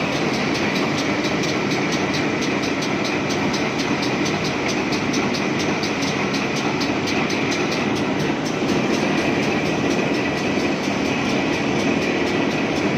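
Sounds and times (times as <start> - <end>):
high machine whine: 0.0 - 12.9
regular machine ticking: 0.0 - 12.9
wood moulding machine running: 0.0 - 12.9.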